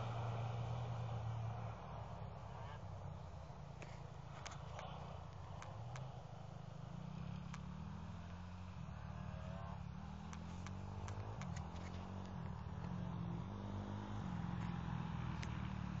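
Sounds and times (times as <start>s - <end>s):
distant car engine revving: 0.0s - 16.0s.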